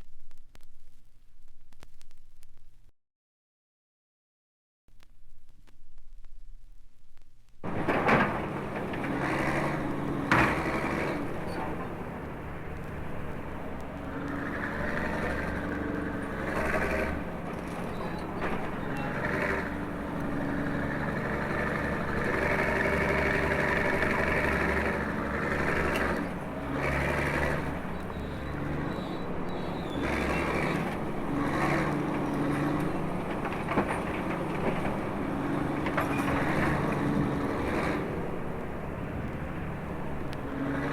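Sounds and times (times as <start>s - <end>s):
heavy vehicle engine running: 7.6s - 40.9s.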